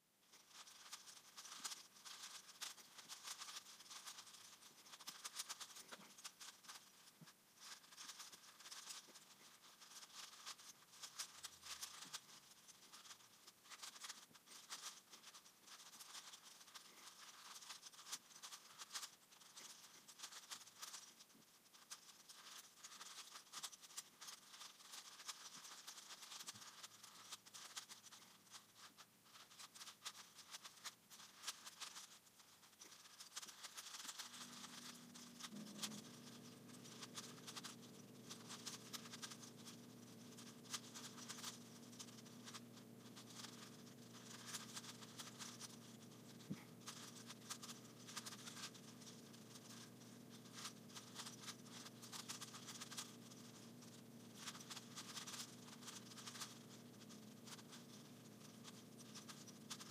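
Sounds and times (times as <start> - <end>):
rapid plastic puzzle cube clicking: 0.3 - 59.9.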